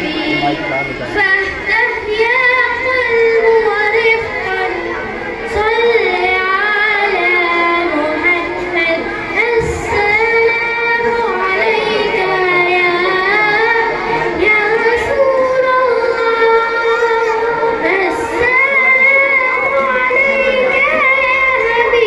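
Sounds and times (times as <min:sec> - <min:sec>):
boy singing into a microphone: 0:00.0 - 0:22.0.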